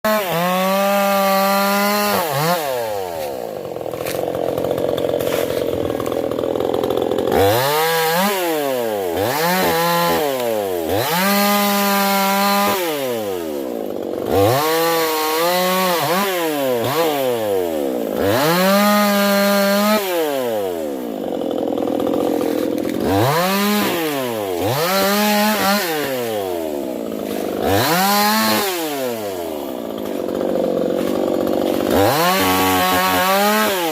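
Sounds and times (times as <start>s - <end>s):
chainsaw revving: 0.0s - 33.9s.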